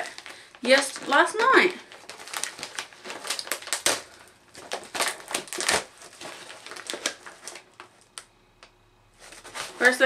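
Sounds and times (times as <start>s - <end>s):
plastic mailer crinkling: 0.0s - 8.3s, 9.1s - 10.0s.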